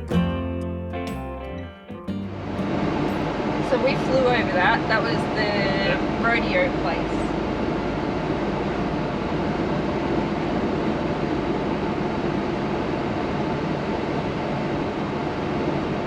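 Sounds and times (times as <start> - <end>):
vehicle engine drone from cabin: 2.2 - 16.0.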